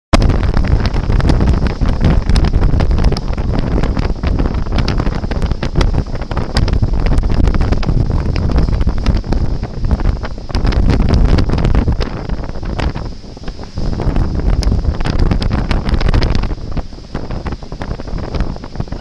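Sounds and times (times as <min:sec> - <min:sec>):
wind buffeting microphone: 0:00.1 - 0:19.0
water rushing: 0:00.2 - 0:19.0.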